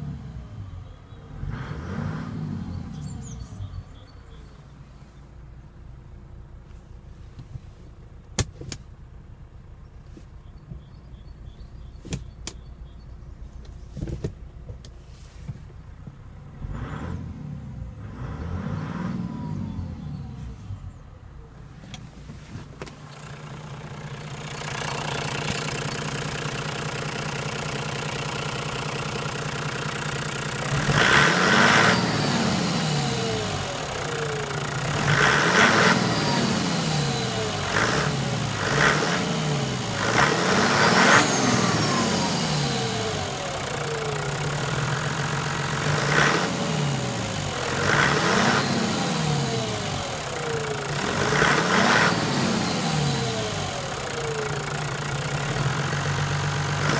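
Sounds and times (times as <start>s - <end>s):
diesel engine idling and revving: 0.0s - 56.9s.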